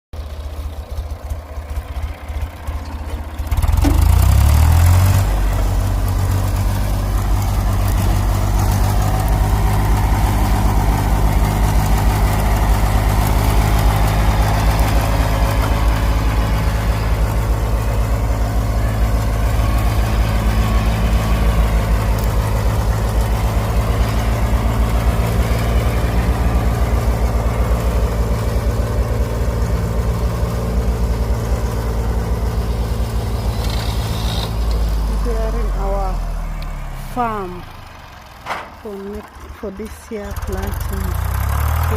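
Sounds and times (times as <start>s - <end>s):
tractor engine: 0.1s - 41.9s.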